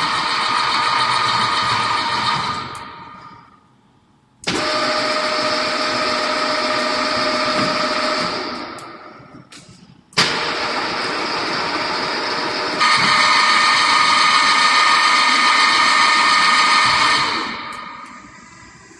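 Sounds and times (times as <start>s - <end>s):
machine whine: 0.0s - 9.5s, 10.2s - 18.9s.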